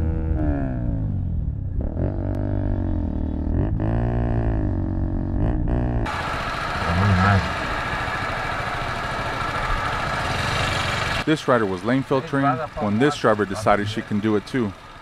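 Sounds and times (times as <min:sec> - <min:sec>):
motorcycle engine revving: 0:00.0 - 0:15.0
traffic: 0:00.0 - 0:15.0.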